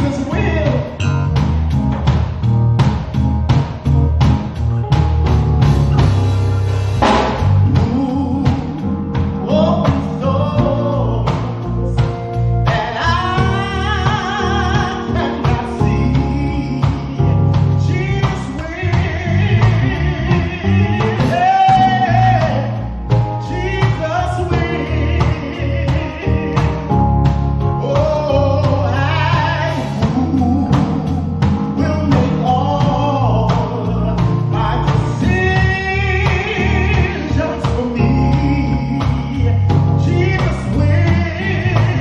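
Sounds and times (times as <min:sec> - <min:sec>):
drums bass and guitar: 0:00.0 - 0:42.0.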